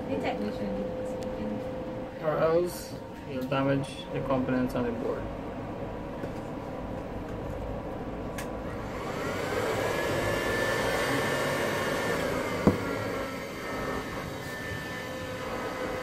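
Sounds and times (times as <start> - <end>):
hot air station blowing: 1.7 - 16.0.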